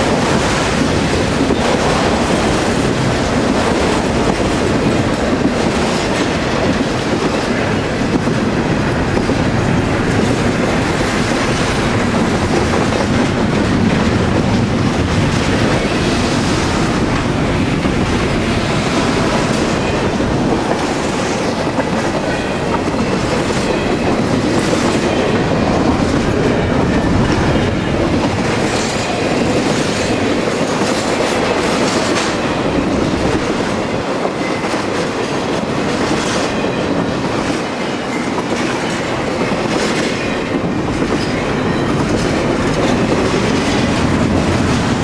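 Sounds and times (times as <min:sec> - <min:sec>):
clickety-clack at rail joints: 0:00.0 - 0:45.0
freight train rolling past: 0:00.0 - 0:45.0.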